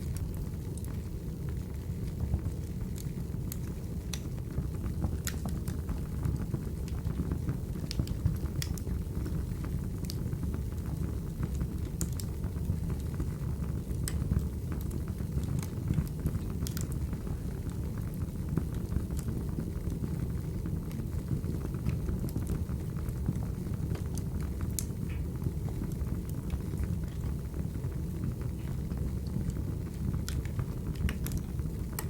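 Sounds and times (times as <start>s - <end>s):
fire rumbling: 0.0s - 32.0s
firewood crackling and popping: 0.0s - 32.0s.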